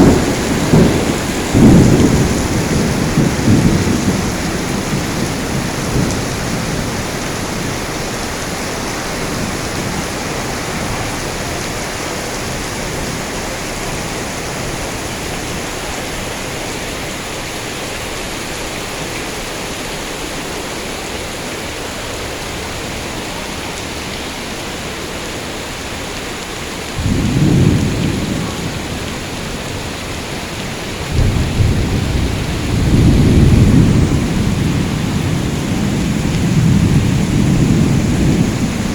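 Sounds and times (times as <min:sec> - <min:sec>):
thunder rumbling: 0:00.0 - 0:19.5, 0:21.7 - 0:38.9
heavy rain pouring: 0:00.0 - 0:38.9.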